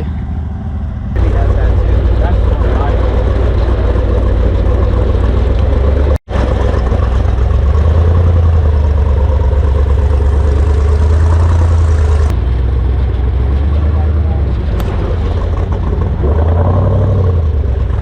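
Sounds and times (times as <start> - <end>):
off-road buggy engine droning: 0.0 - 18.0.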